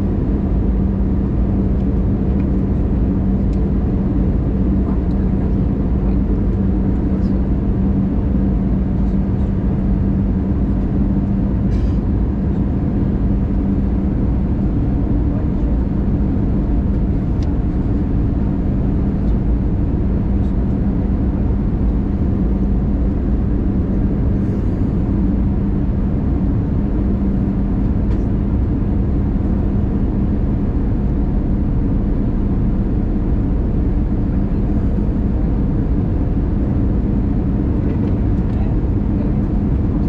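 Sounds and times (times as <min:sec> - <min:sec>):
aircraft cabin engine drone: 0:00.0 - 0:40.0.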